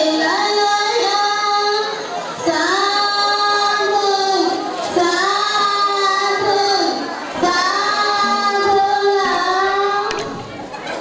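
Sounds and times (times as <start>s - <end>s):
high voices singing: 0.0s - 10.6s.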